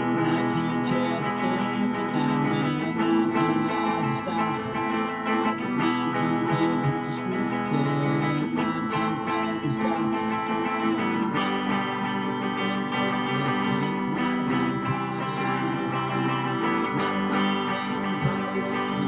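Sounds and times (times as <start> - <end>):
rock guitar chords: 0.0 - 19.0.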